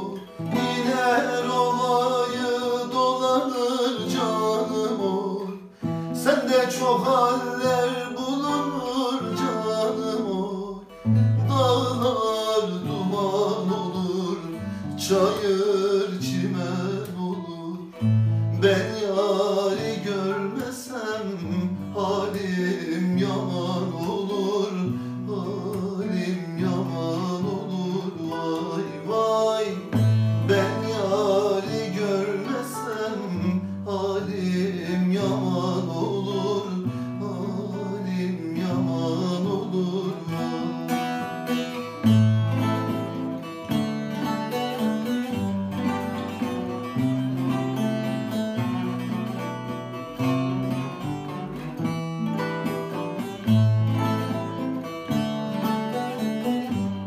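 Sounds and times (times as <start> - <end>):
classical guitar: 0.0 - 57.0
plucked lute: 0.0 - 57.0.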